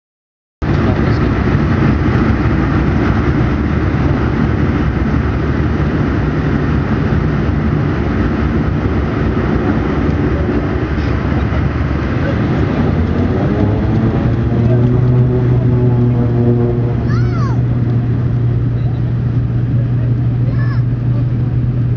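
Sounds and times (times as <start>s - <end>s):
turboprop engines running: 0.6s - 21.9s.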